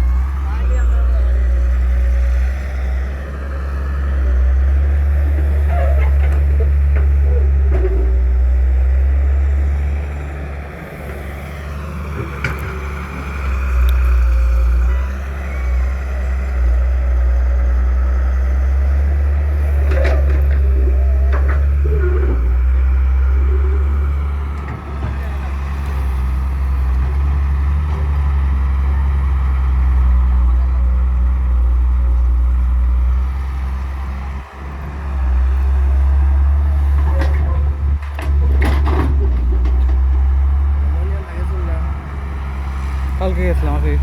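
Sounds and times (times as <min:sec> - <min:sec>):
diesel machinery engine droning: 0:00.0 - 0:44.0.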